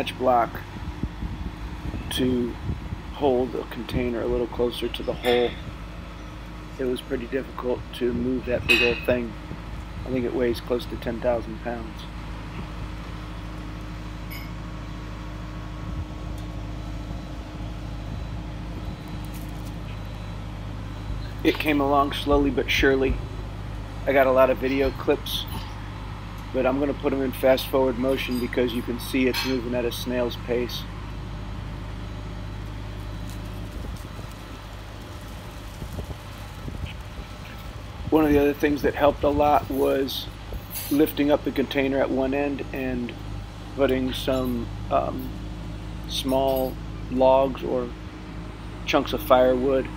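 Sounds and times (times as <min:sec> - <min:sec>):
loader engine running: 0:00.0 - 0:49.9.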